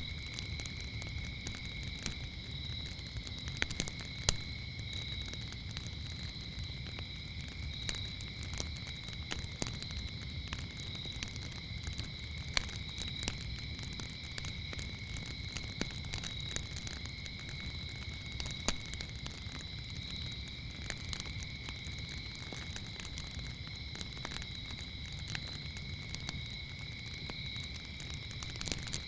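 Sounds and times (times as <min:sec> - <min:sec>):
crickets trilling: 0:00.0 - 0:29.0
wood fire crackling: 0:00.0 - 0:29.0.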